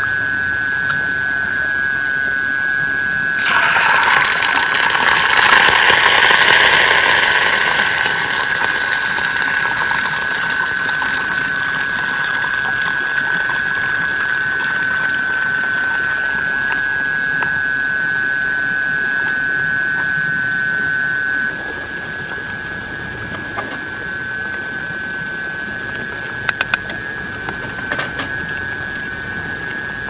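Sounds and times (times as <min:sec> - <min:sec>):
high-pitched whine: 0:00.0 - 0:30.0.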